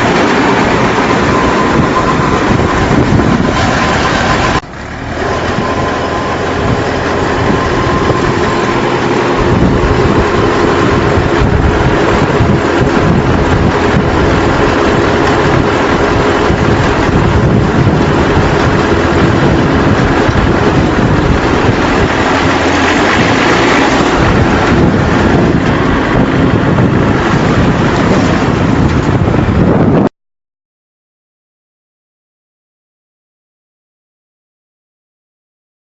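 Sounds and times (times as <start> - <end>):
baler machinery running: 0.0 - 30.1
wind on microphone: 0.0 - 30.1.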